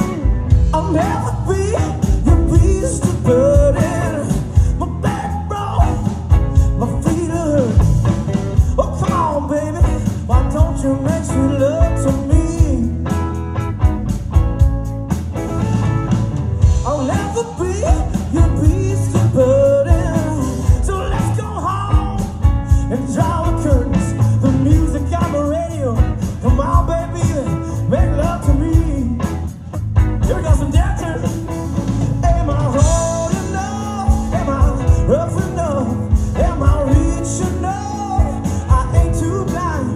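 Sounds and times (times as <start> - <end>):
person singing: 0.0 - 8.0, 8.6 - 13.1, 16.8 - 29.4, 32.1 - 39.9
guitar: 0.0 - 39.9
steady drum beat: 0.0 - 39.9.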